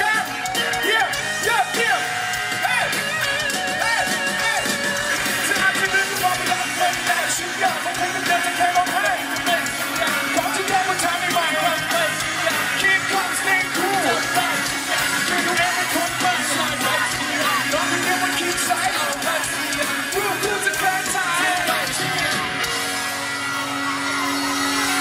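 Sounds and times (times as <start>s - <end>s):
man singing: 0.0s - 22.8s
live pop-rock band: 0.0s - 25.0s.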